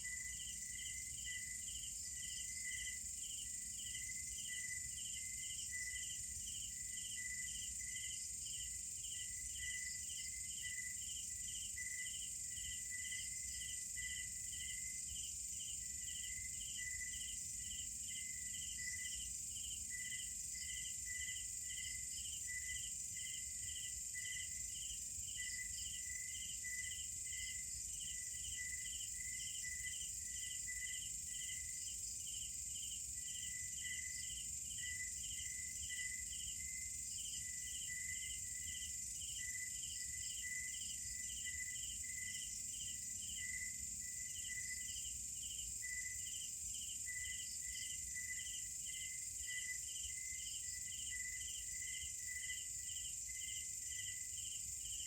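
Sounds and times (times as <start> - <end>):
crickets chirping: 0.0 - 55.0
insects droning: 0.0 - 55.0.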